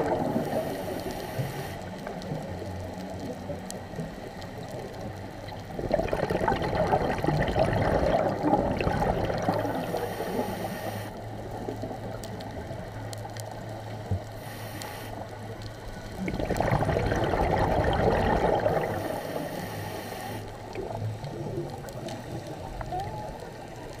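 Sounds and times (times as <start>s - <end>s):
underwater bubbles gurgling: 0.0s - 24.0s.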